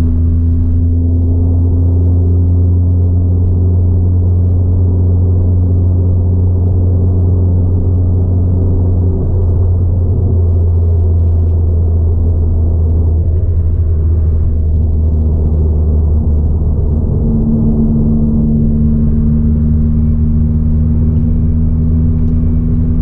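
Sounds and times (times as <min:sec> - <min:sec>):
car engine droning inside cabin: 0:00.0 - 0:23.0.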